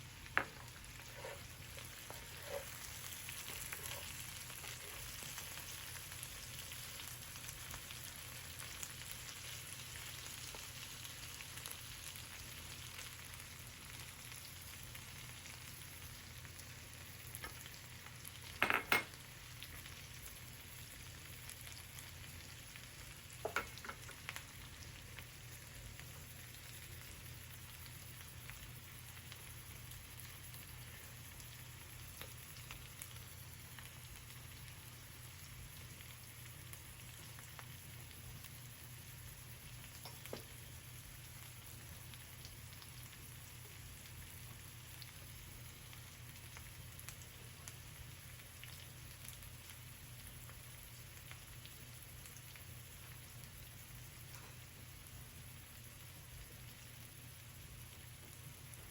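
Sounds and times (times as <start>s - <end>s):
food sizzling in a frying pan: 0.0s - 58.9s.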